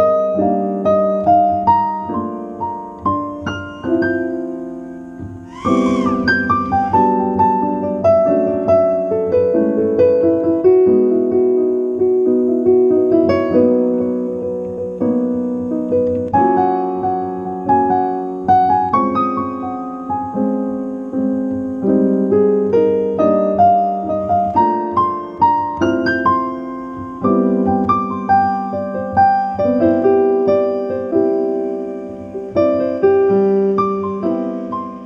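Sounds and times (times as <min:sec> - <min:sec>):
solo piano music: 0:00.0 - 0:35.0.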